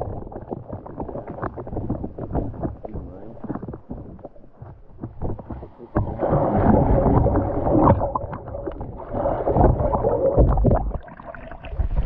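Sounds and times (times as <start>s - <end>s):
water splashing and gurgling: 0.0s - 12.0s.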